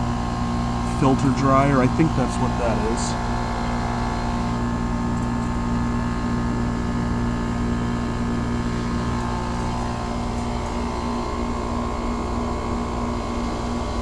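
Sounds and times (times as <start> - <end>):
heat pump humming: 0.0 - 14.0.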